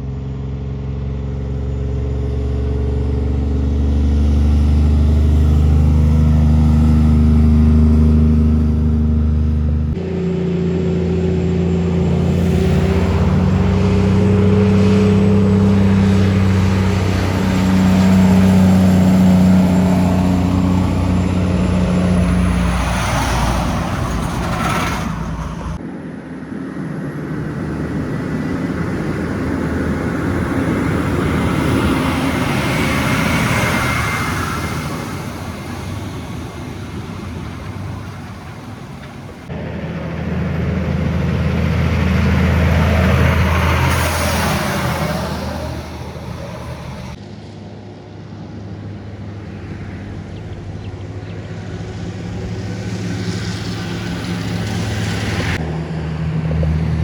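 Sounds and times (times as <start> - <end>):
diesel trucks passing: 0.0 - 57.0.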